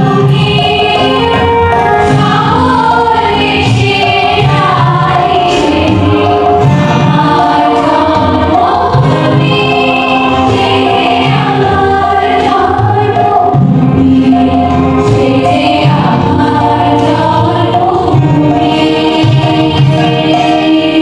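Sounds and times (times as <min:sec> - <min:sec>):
steady low backing: 0:00.0 - 0:21.0
women's choir singing: 0:00.0 - 0:21.0.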